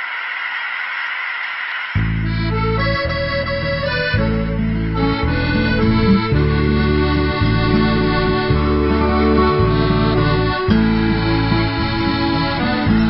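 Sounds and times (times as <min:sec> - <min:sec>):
country music instrumental: 0:02.0 - 0:13.0.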